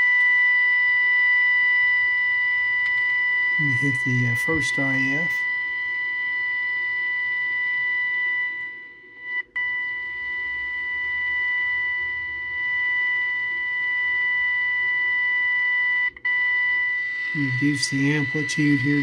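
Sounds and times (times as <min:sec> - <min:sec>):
harsh test tone from radio speaker: 0:00.0 - 0:19.0.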